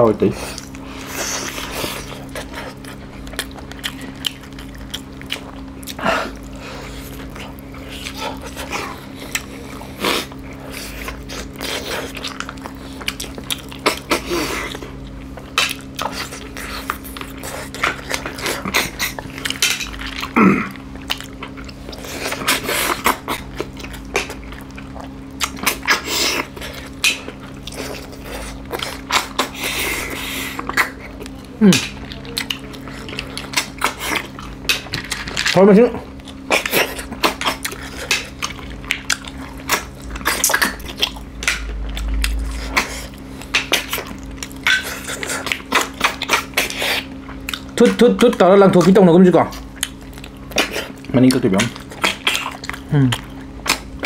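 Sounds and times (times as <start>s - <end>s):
steady low hum: 0.0s - 54.0s
chewing and lip smacking: 0.3s - 54.0s.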